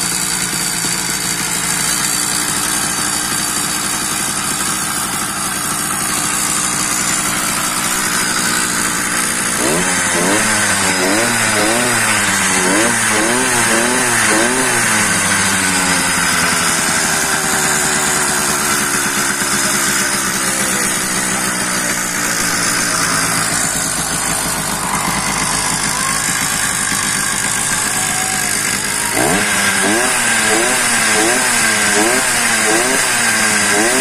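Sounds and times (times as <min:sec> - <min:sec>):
two-stroke bicycle engine revving: 0:00.0 - 0:34.0.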